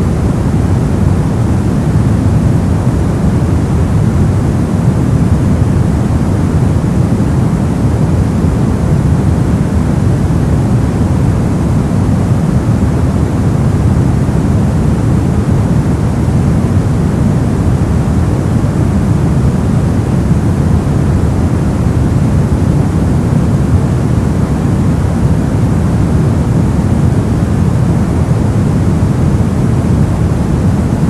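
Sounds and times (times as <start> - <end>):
brown noise: 0.0 - 31.0.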